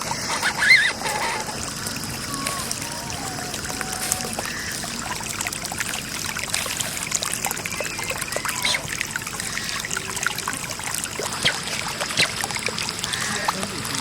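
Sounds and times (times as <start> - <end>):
floodwater trickling and splashing: 0.0 - 14.0.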